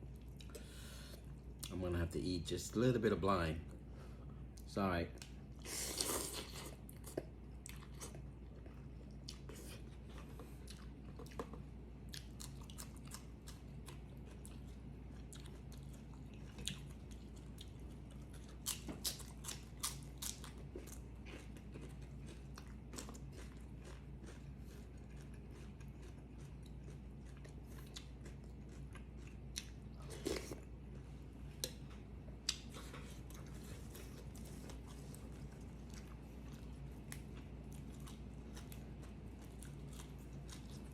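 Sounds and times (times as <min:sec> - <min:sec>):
person chewing food: 0:00.0 - 0:01.7, 0:04.4 - 0:40.9
food crunching: 0:05.9 - 0:31.0, 0:31.6 - 0:40.9.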